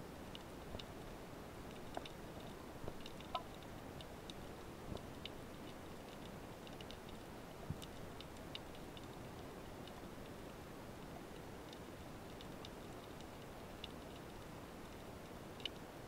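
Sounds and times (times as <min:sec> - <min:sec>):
small underwater clicks: 0:00.2 - 0:16.0.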